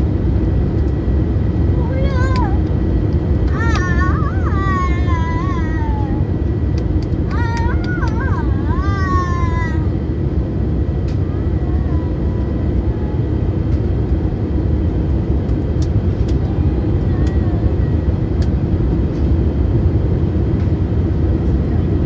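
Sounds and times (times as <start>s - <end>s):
faint steady whine: 0.0s - 22.0s
airliner cabin rush: 0.1s - 22.0s.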